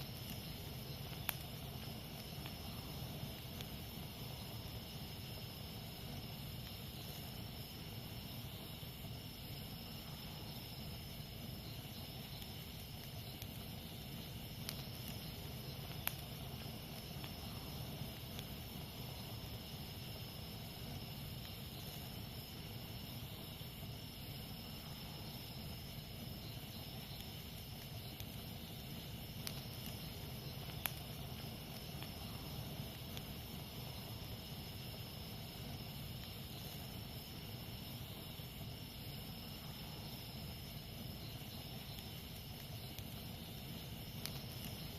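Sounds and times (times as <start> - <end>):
campfire crackling and popping: 0.0 - 44.9
jungle insects droning: 0.0 - 44.9.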